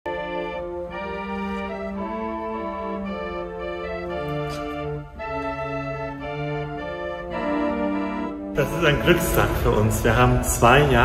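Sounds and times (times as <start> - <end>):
church pipe organ playing: 0.1 - 11.0.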